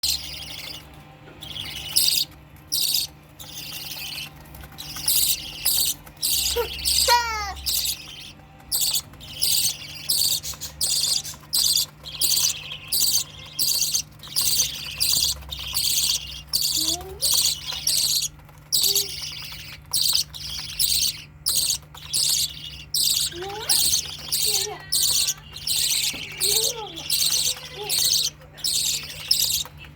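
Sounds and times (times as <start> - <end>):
budgerigars chirping: 0.0 - 29.9
low steady hum: 0.0 - 29.9.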